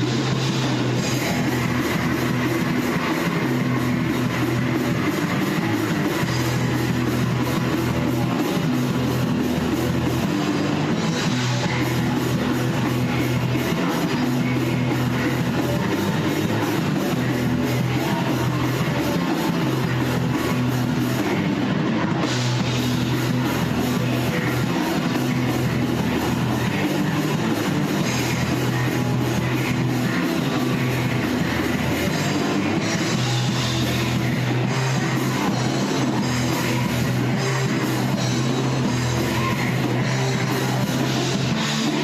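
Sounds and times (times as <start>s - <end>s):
bass guitar: 0.0s - 42.0s
distorted guitar: 0.0s - 42.0s
drum kit: 0.0s - 42.0s.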